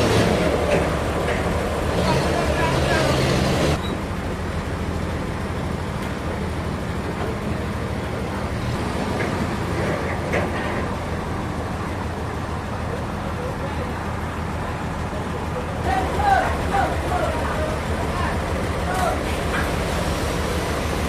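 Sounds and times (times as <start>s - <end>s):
sawmill machinery humming: 0.0s - 21.0s.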